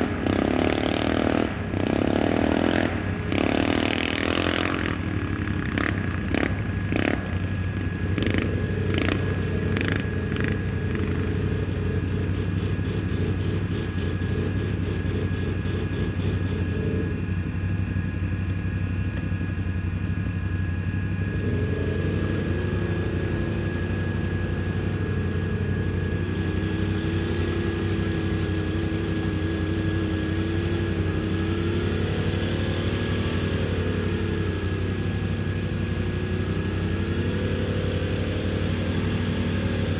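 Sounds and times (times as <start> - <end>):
atv engine running: 0.0 - 39.9
high rising and falling whine: 0.0 - 39.9.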